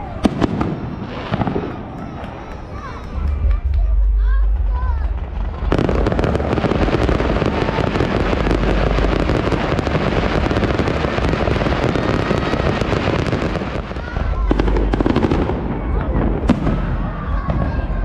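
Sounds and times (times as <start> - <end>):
fireworks bangs: 0.0 - 18.0
fireworks crackling and popping: 0.0 - 18.0.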